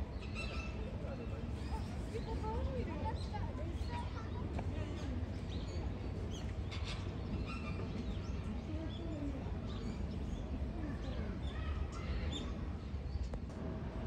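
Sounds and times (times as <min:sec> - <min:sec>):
faint voices: 0:00.2 - 0:13.8.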